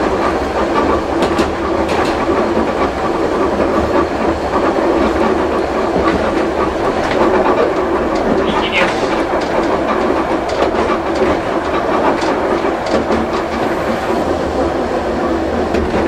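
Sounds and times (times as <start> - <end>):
tram motor hum: 0.0 - 16.0
wheels clacking over rail joints: 0.0 - 16.0.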